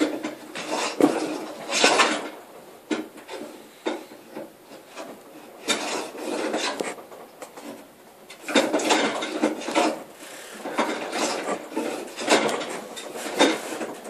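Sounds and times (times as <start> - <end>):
hand plane scraping wood: 0.0 - 2.3, 3.0 - 14.0.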